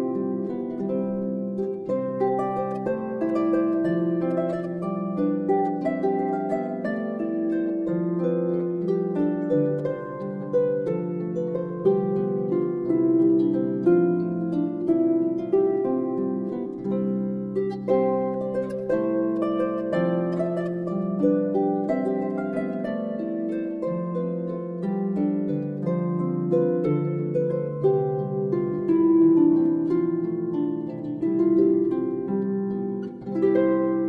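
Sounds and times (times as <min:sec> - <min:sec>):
harp music: 0:00.0 - 0:34.0.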